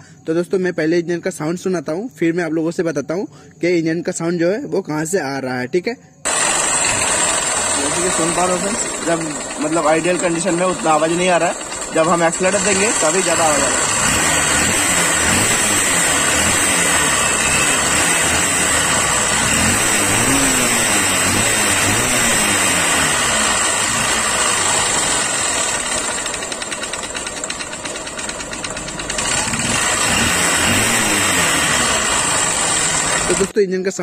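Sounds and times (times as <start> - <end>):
engine knocking: 6.3 - 33.5
motorcycle engine revving: 6.3 - 33.6.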